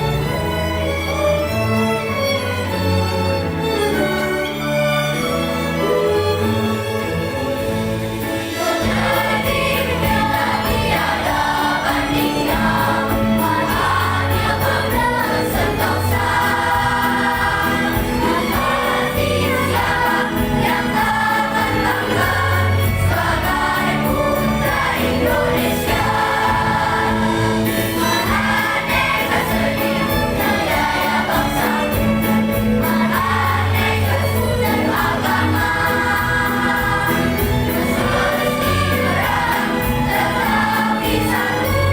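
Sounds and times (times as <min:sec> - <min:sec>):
instrumental accompaniment: 0:00.0 - 0:41.9
children's choir singing: 0:03.7 - 0:41.9.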